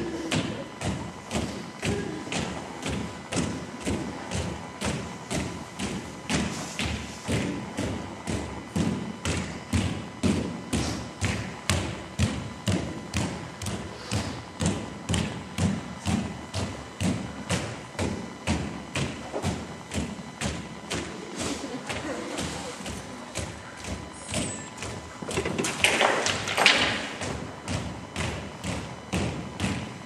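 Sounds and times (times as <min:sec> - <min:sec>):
dancers' footsteps on dance floor: 0:00.0 - 0:30.0.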